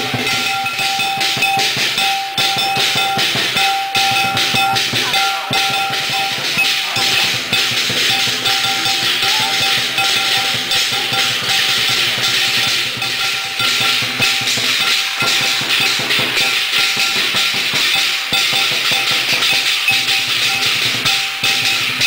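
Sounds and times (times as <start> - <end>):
drum strikes: 0.0 - 22.0
ringing metal percussion: 0.0 - 22.0.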